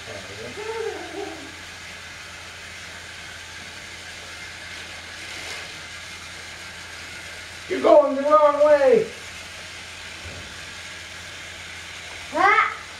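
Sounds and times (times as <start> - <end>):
toy trains running on plastic track: 0.0 - 12.9.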